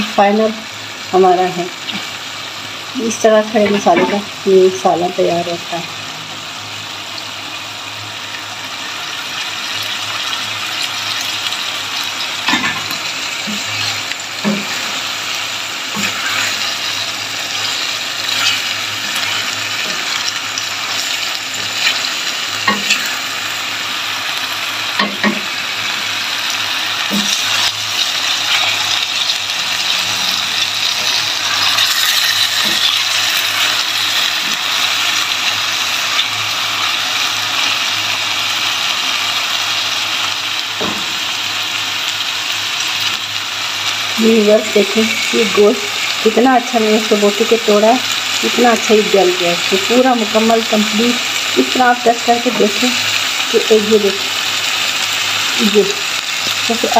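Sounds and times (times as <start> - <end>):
curry sizzling in pot: 0.0 - 56.9.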